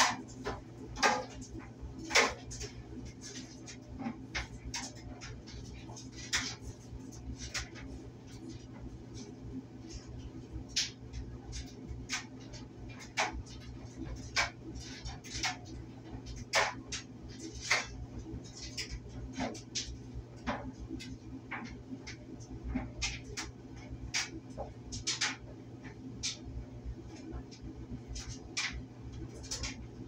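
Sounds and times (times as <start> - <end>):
clothes dryer humming: 0.0 - 30.0.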